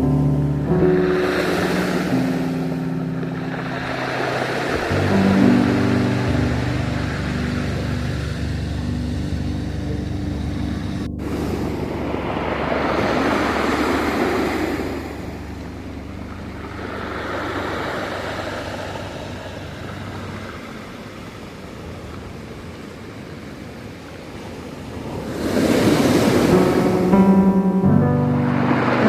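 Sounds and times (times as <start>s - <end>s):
low held music notes: 0.0s - 22.4s, 25.7s - 29.0s
ocean waves washing: 0.0s - 29.0s.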